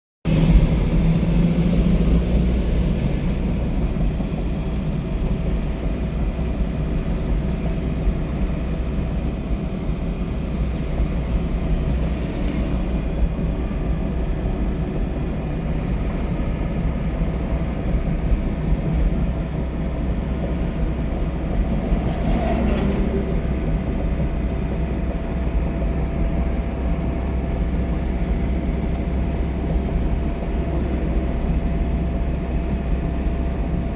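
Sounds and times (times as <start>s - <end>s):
vehicle rumbling in motion: 0.2s - 33.9s.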